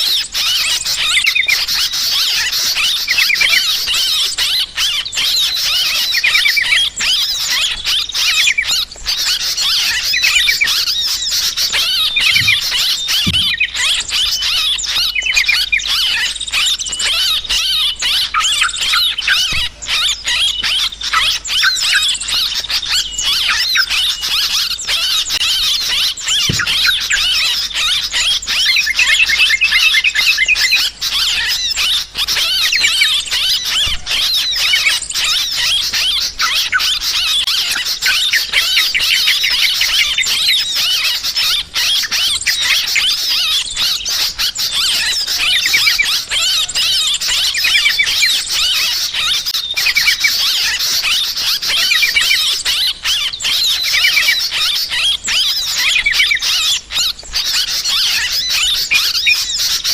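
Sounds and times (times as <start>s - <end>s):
bulbuls chattering: 0.0s - 59.9s.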